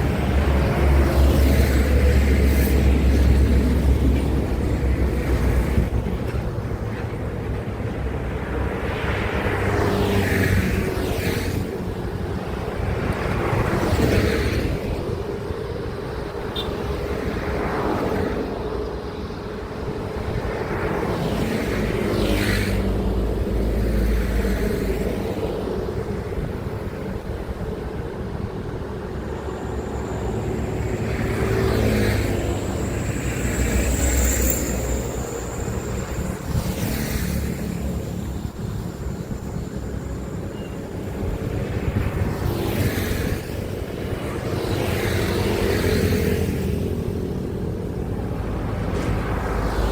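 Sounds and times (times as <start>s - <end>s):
heavy vehicles passing by: 0.0s - 49.9s.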